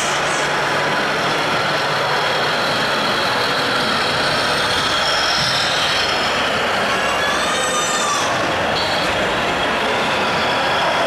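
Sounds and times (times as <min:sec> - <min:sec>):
toy truck engine sound: 0:00.0 - 0:11.0.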